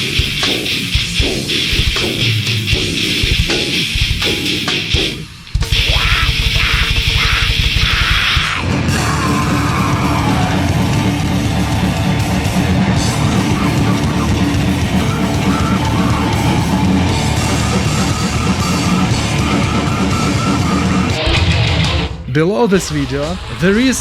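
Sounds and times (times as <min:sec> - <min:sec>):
distorted electric guitars: 0:00.0 - 0:24.0
drum kit: 0:00.0 - 0:24.0.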